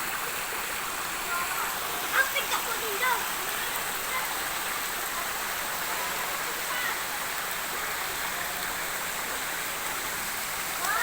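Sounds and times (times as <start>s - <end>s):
river water flowing over rocks: 0.0s - 11.0s.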